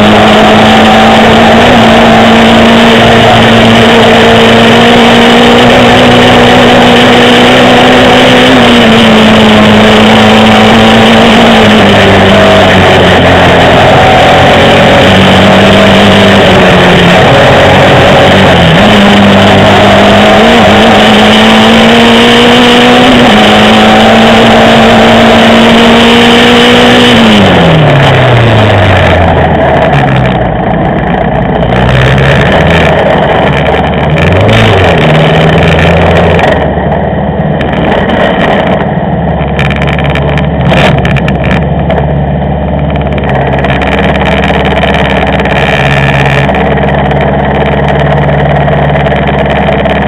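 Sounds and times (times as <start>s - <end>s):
race car engine revving and idling: 0.0s - 50.0s.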